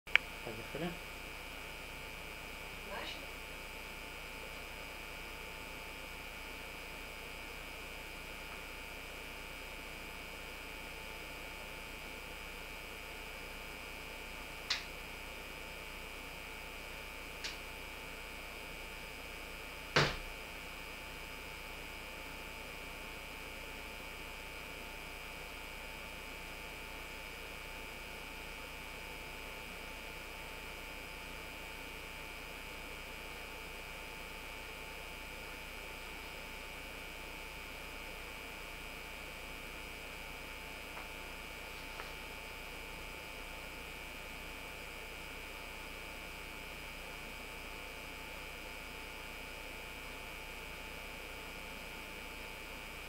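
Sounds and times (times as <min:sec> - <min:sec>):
electrical hum and hiss: 0:00.1 - 0:53.0.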